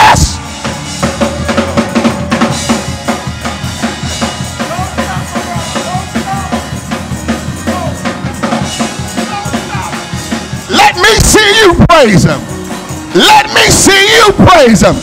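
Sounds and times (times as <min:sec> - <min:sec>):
fast drum kit beat: 0:00.0 - 0:15.0.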